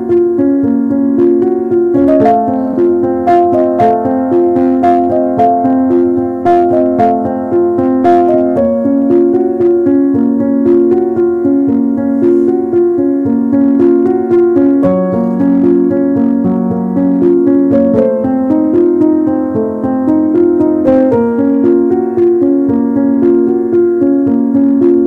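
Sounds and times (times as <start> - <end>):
piano melody over chords: 0.0 - 25.0.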